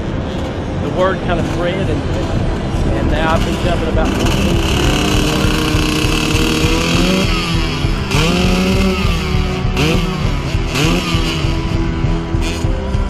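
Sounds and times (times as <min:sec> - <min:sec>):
dirt bike engine throttle blips: 0:00.0 - 0:13.0.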